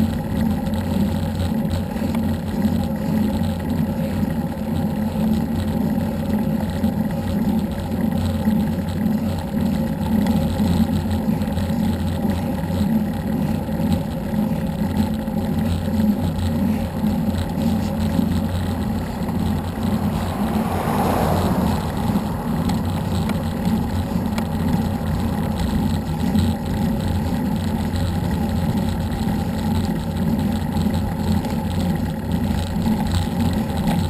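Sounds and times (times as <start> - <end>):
road noise: 0.0 - 34.0.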